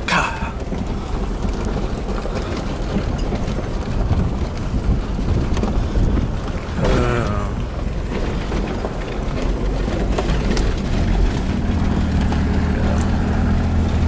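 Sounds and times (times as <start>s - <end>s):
engine running low: 0.0s - 14.0s
tyres crunching over gravel: 0.0s - 14.0s.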